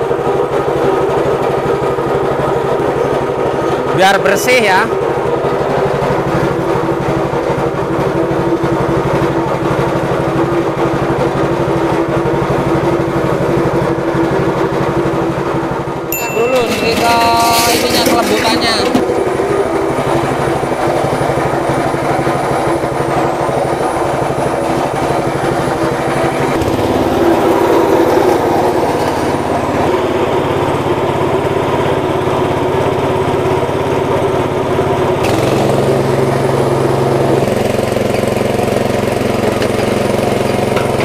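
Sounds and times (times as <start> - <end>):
chilies being ground in a mill: 0.0 - 41.0
small petrol engine running: 0.0 - 41.0.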